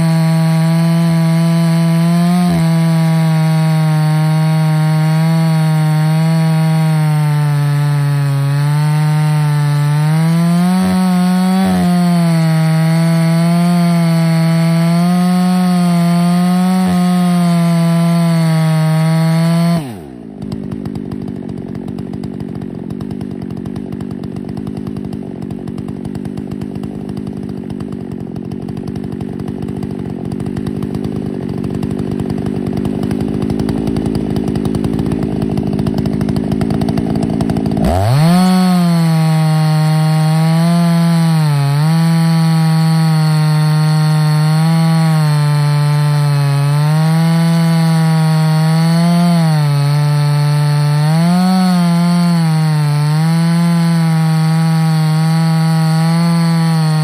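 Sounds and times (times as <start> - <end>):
chainsaw cutting log: 0.0 - 57.0
chainsaw idling: 0.0 - 57.0.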